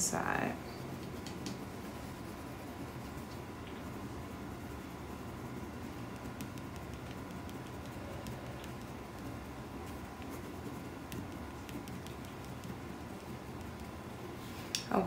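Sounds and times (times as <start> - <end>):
low room hum: 0.0 - 15.0
colored pencil scratching on paper: 0.5 - 14.4.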